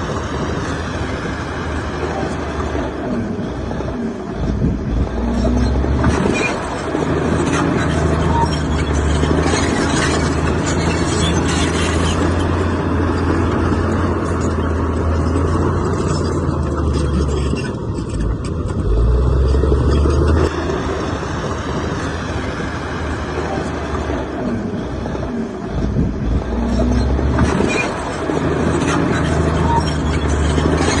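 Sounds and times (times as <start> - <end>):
heavy diesel engine droning: 0.0 - 31.0.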